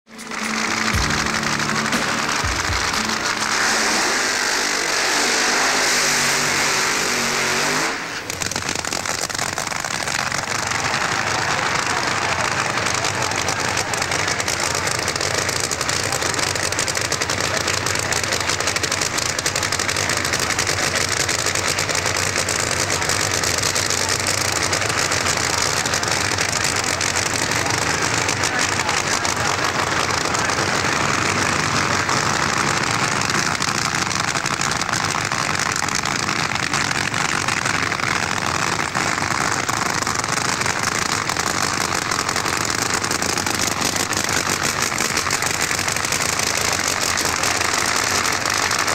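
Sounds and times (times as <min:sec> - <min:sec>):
rough engine running steadily: 0:00.0 - 0:48.9.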